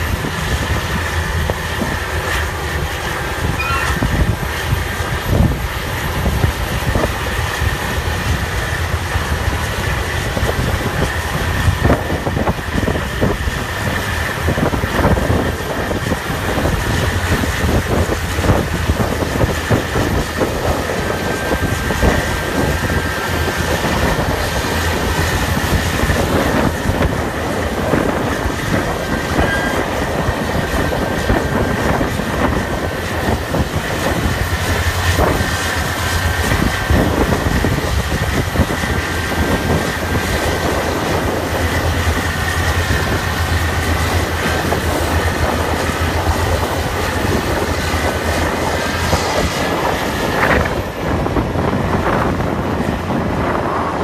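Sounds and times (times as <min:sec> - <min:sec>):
diesel engines rumbling: 0:00.0 - 0:54.0
steady high whine: 0:00.0 - 0:54.0.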